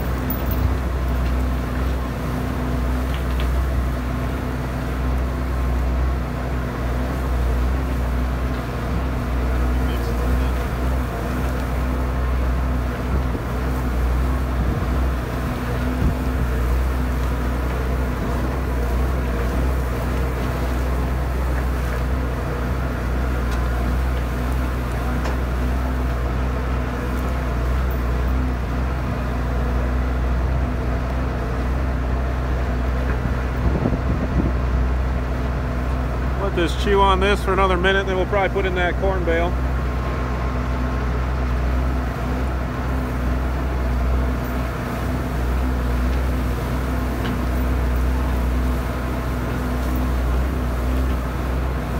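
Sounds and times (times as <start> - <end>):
mixer auger chewing bale: 0.0 - 51.9
tractor engine drone: 0.0 - 51.9.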